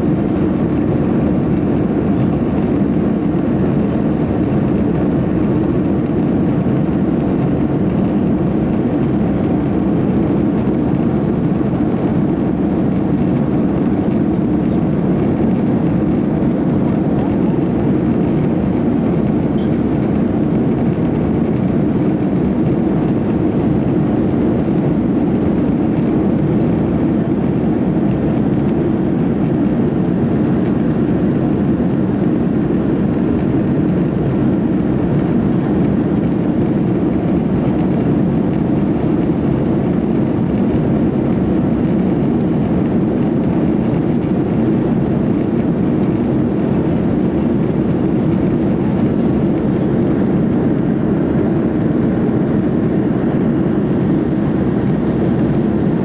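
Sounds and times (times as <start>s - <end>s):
airliner cabin jet engine noise: 0.0s - 56.0s.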